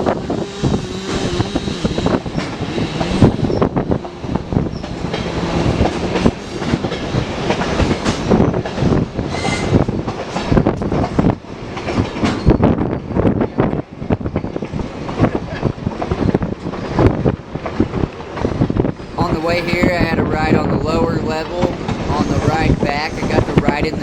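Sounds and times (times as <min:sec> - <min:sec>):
steady train rumble: 0:00.0 - 0:24.0
train cars rattling: 0:00.0 - 0:24.0
train wheels clattering over rails: 0:00.0 - 0:24.0.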